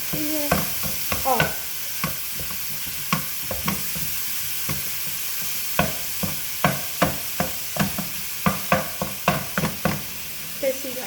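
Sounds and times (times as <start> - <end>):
meat sizzling in a pan: 0.0 - 11.0
utensil knocking and scraping pan: 0.1 - 10.1.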